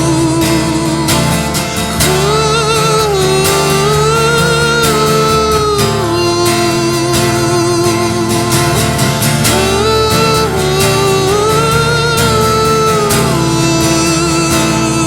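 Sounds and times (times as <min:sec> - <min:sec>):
held melody line with vibrato: 0:00.0 - 0:15.0
strummed acoustic guitar: 0:00.0 - 0:15.0.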